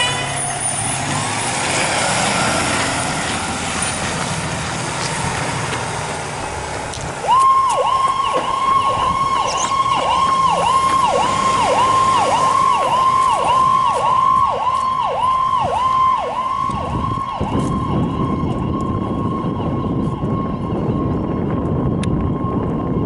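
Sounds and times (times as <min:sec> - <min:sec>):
fire engine siren: 0:00.0 - 0:23.0.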